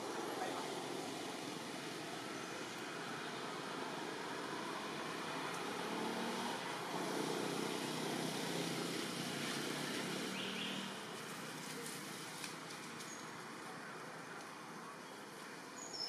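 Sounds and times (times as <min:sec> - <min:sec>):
outdoor ambience: 0:00.0 - 0:16.0.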